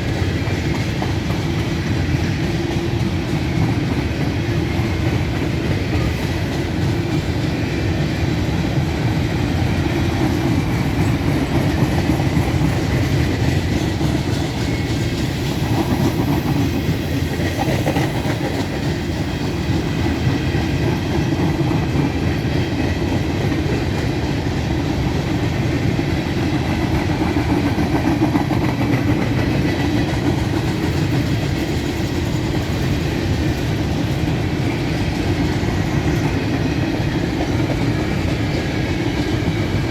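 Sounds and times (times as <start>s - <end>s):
train cars rolling on rails: 0.0s - 39.9s.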